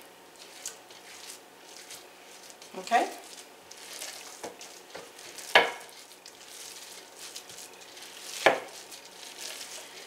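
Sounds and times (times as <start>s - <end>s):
hands squishing wet mixture: 0.3s - 10.0s.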